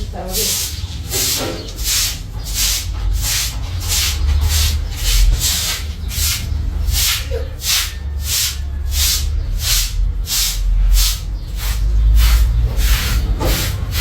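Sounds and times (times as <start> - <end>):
brush sweeping: 0.0 - 14.0.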